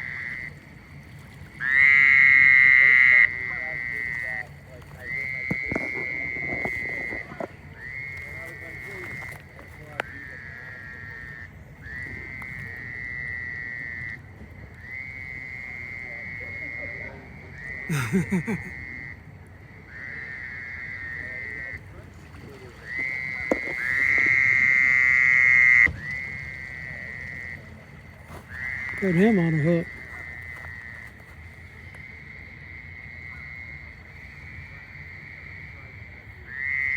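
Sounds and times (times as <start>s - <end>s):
small frogs calling: 0.0s - 36.9s.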